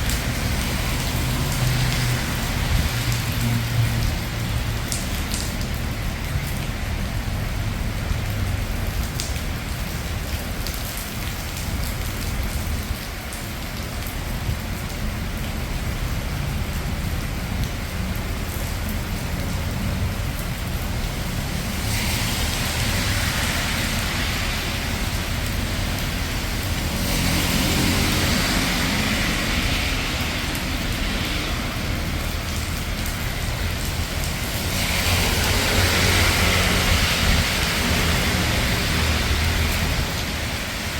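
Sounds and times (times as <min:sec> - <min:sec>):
low traffic rumble: 0:00.0 - 0:40.9
steady rain: 0:00.0 - 0:40.9.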